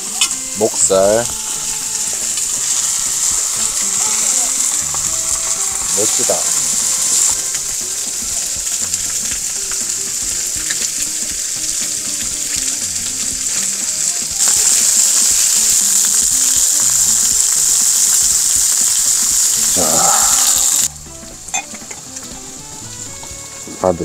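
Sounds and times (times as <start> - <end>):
meat sizzling on a griddle: 0.0 - 24.0.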